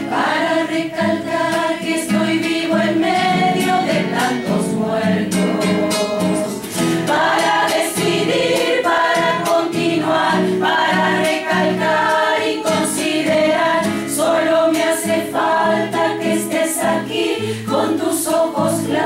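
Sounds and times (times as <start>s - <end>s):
guitar accompaniment: 0.0s - 19.0s
mixed choir singing: 0.0s - 19.0s.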